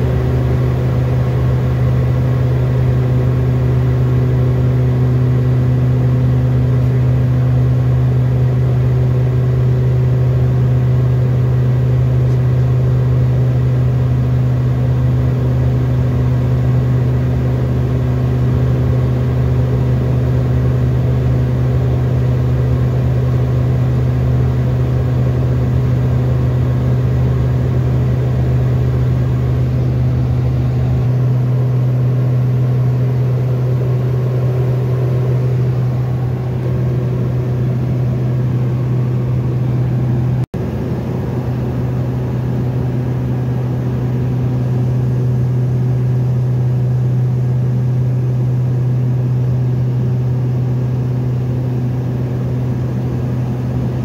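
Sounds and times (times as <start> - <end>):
turboprop cabin drone: 0.0 - 54.0.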